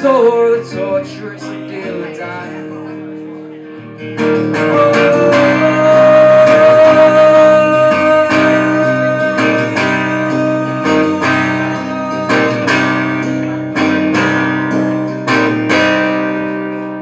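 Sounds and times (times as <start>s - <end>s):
acoustic guitar strummed hard: 0.0s - 17.0s.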